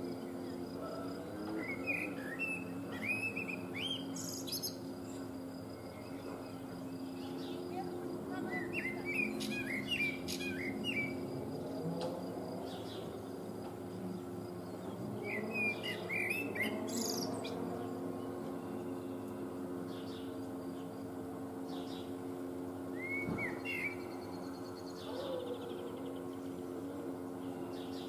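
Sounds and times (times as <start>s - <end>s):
steady low hum: 0.0s - 28.0s
blackbird singing: 0.1s - 11.6s, 14.2s - 20.9s, 22.9s - 28.0s.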